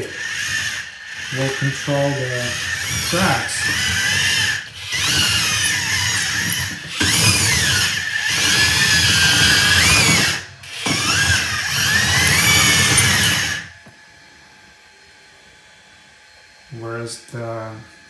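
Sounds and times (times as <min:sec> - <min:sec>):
electric motors whining: 0:00.0 - 0:14.6.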